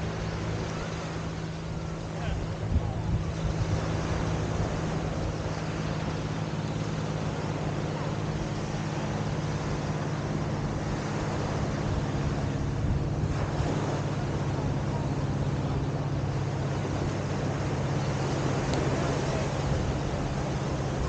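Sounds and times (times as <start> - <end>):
surf and wind on microphone: 0.0 - 21.0.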